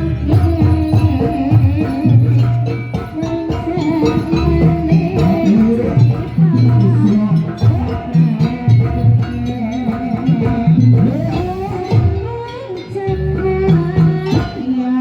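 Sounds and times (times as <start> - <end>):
drums and percussion: 0.0 - 15.0
held melody line: 0.0 - 15.0.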